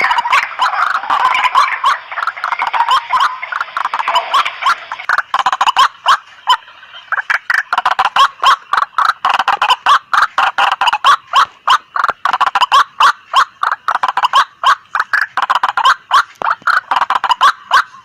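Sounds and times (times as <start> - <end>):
waterhens chattering calls: 0.0 - 18.0.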